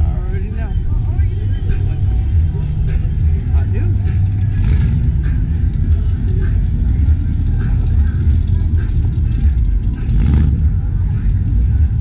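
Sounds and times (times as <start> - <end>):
car engine running: 0.0 - 12.0
faint voices: 0.0 - 12.0.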